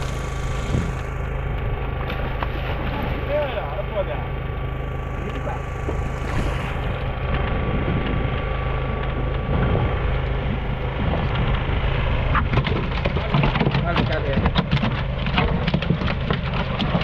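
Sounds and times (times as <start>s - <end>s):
sea noise: 0.0s - 13.8s
boat engine humming: 0.0s - 17.0s
water splashing against hull: 0.0s - 17.0s
wind: 0.0s - 17.0s.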